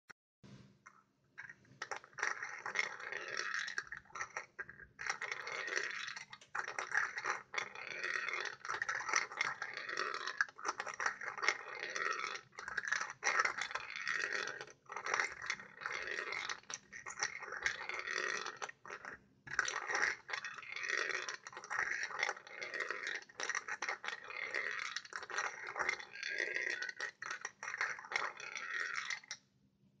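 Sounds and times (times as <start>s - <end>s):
steel balls rattling through marble run: 1.4s - 29.4s.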